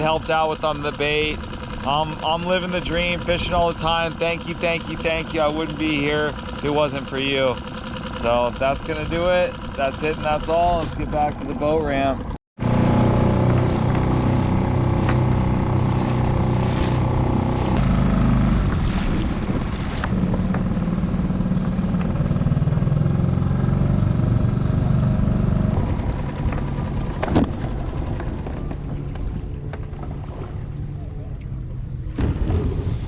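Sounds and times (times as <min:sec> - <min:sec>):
outboard motor running: 0:00.0 - 0:33.0.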